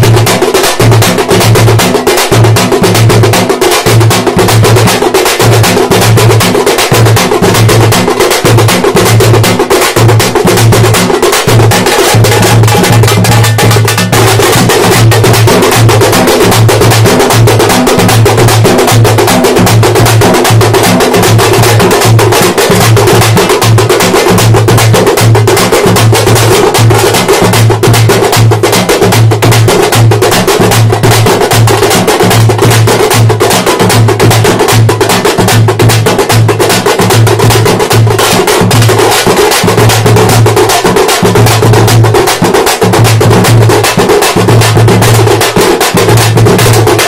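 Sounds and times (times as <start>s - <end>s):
frame drums beaten with sticks: 0.0s - 47.0s.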